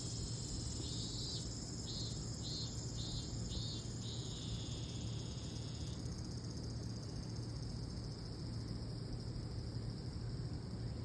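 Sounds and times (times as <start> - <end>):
high-pitched insect chorus: 0.0 - 10.9
crickets chirping in trills: 0.0 - 11.0.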